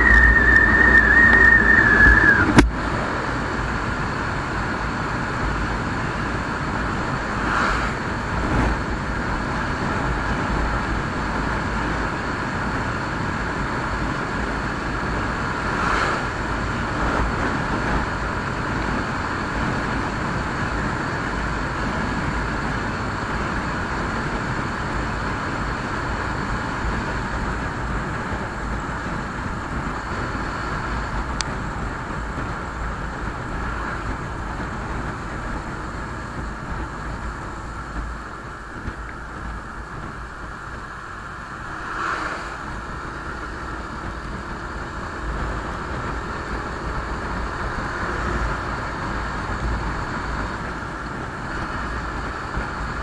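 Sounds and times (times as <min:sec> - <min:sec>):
wind rushing on microphone: 0:00.0 - 0:53.0.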